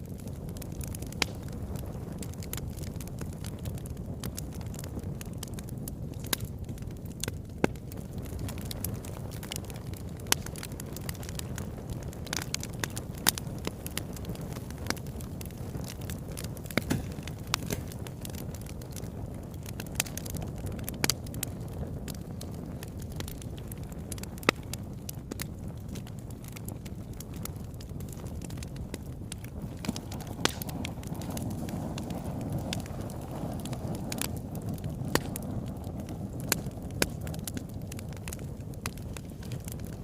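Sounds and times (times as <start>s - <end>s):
fire flames rumbling: 0.0s - 40.0s
wood fire crackles and pops: 0.0s - 40.0s.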